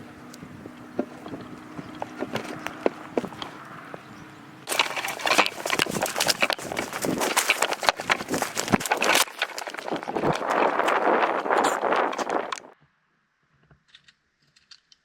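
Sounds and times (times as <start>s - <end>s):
running footsteps crunching: 0.0s - 12.8s.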